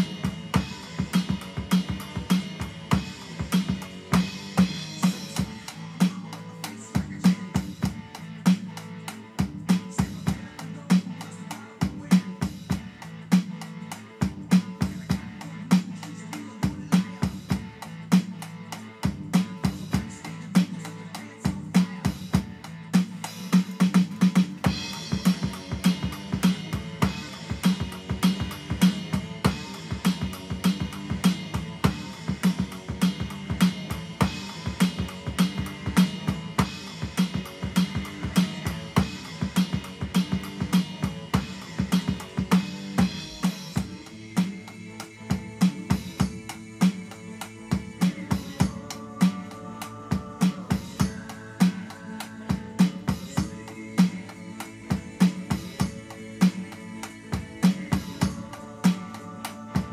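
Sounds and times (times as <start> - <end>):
electronic drum kit groove: 0.0 - 59.9.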